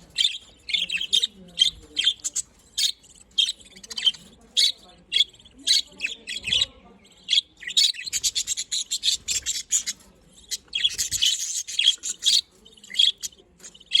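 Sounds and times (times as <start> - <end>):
budgerigars chirping and chattering: 0.0 - 14.0.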